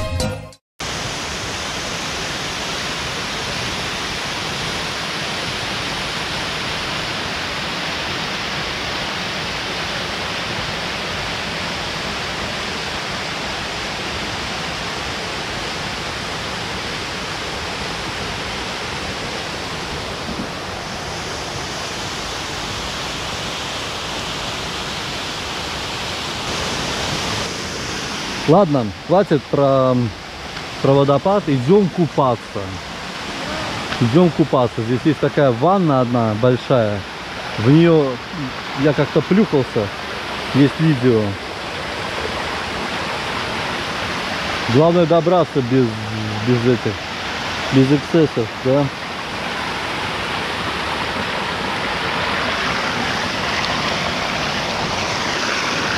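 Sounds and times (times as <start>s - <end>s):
waterfall rushing over rocks: 0.8s - 55.9s.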